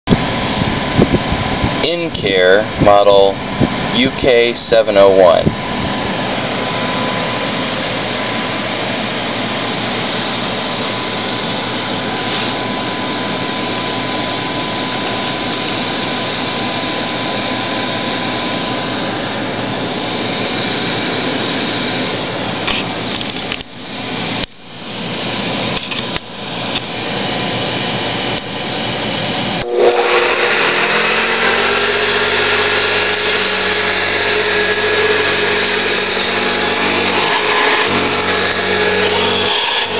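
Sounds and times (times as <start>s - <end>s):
vacuum cleaner motor running: 0.1s - 39.9s.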